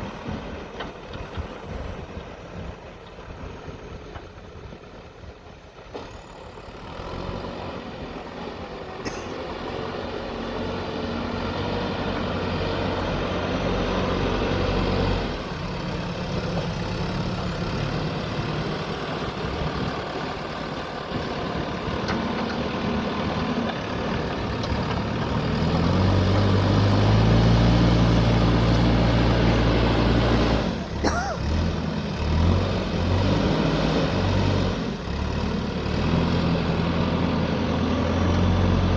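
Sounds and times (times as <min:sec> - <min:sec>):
backhoe diesel engine: 0:00.0 - 0:38.9.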